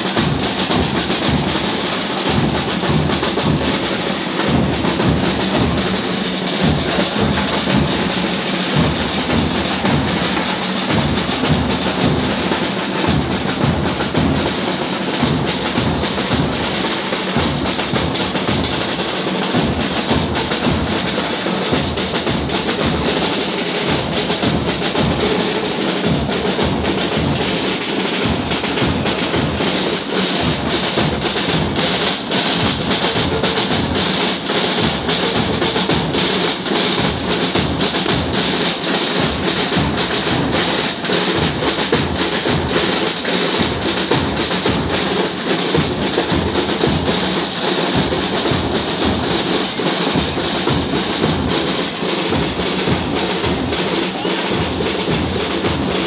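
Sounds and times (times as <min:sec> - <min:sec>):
bass drums beaten together: 0:00.0 - 0:56.0.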